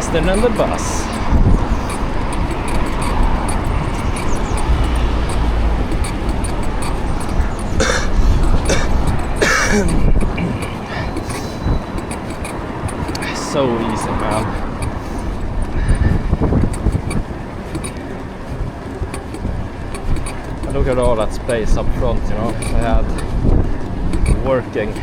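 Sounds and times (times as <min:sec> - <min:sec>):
city traffic noise: 0:00.0 - 0:25.0
wind buffeting microphone: 0:00.0 - 0:25.0.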